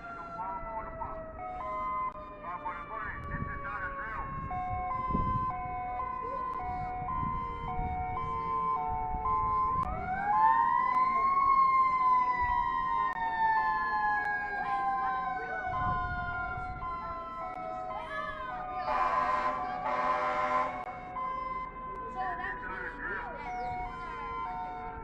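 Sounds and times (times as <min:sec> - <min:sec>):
two-tone warning siren: 0:00.0 - 0:25.0
wailing siren: 0:00.0 - 0:25.0.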